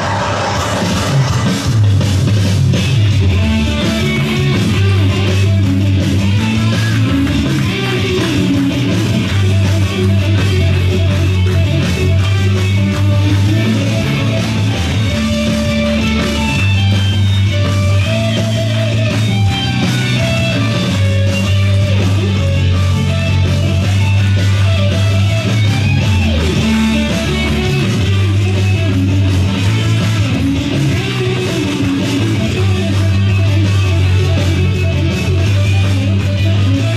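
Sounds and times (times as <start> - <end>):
guitar: 0.0 - 36.9
heavy bass notes: 0.0 - 36.9
loud rock music: 0.0 - 36.9.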